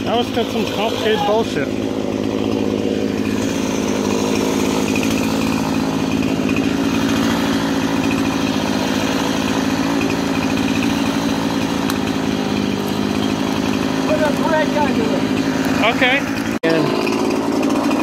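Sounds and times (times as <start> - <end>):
chainsaw running: 0.0 - 18.0.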